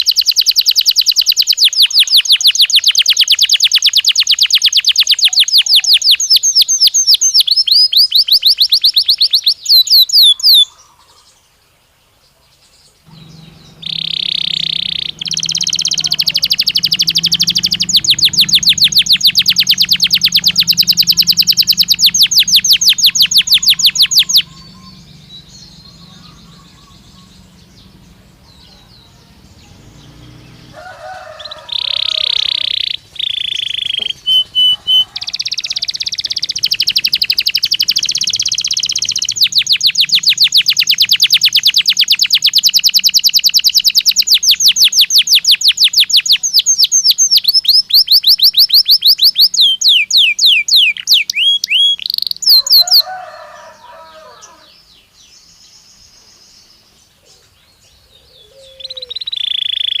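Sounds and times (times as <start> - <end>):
canary singing high trills: 0.0 - 11.3, 13.1 - 54.9, 57.9 - 60.0.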